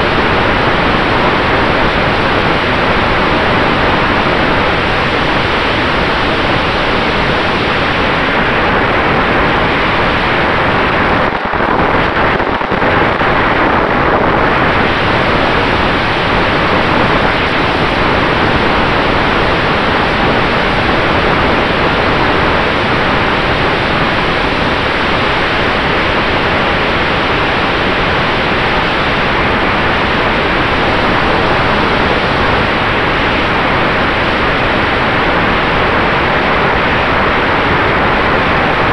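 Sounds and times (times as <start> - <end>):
wind and propeller rush: 0.0 - 38.9.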